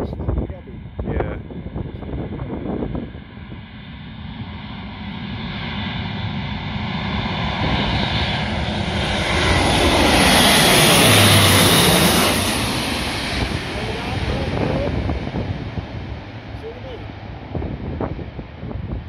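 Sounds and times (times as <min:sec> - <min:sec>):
turboprop plane droning overhead: 0:00.0 - 0:19.0.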